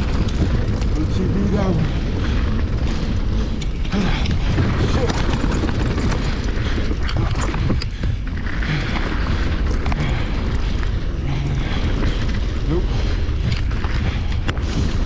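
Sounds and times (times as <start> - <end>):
bike clicks and rattles: 0.0 - 15.0
bike tyre noise: 0.0 - 15.0
wind buffeting microphone: 0.0 - 15.0.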